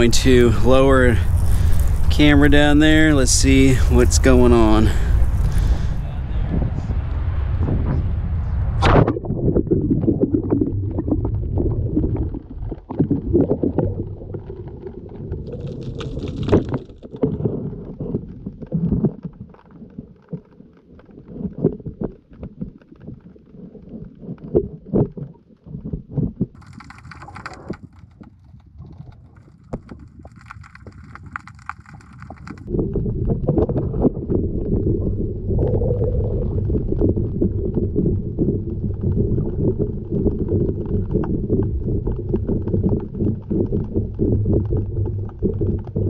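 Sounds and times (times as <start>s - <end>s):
muffled underwater water rumble: 0.0s - 46.0s.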